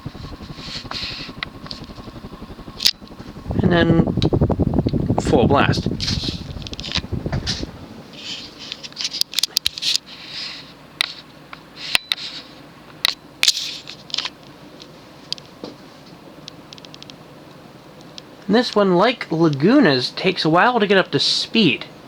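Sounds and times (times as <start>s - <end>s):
ceiling fan hum: 0.0s - 22.0s.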